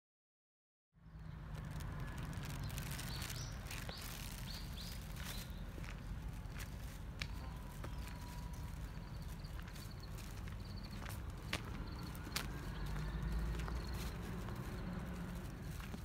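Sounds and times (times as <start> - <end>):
footsteps outdoors: 1.0 - 16.0
small bird chirping: 1.1 - 16.0.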